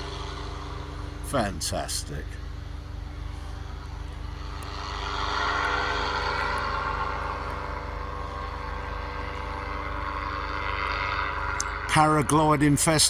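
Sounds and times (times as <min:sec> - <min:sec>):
propeller aircraft engine droning: 0:00.0 - 0:13.0.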